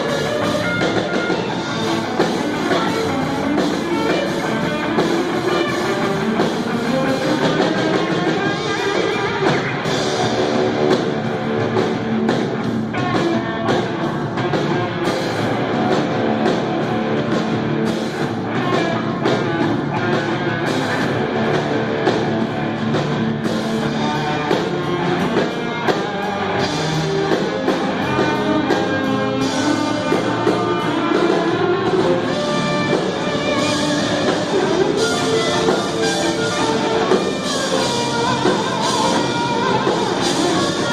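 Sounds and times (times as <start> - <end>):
drum kit: 0.0 - 40.9
guitar: 0.0 - 40.9
rock band playing live: 0.0 - 40.9.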